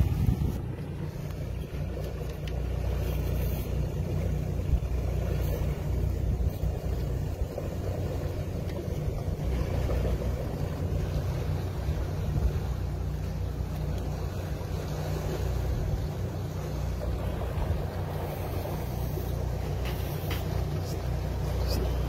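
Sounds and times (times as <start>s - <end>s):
outboard engines rumbling: 0.0s - 22.0s.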